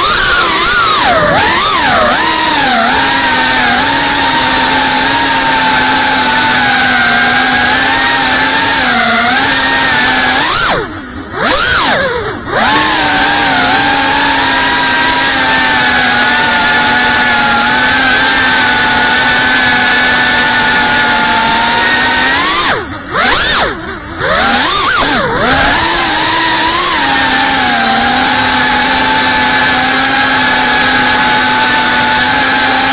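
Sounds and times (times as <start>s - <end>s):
quadcopter motors whining: 0.0s - 32.9s.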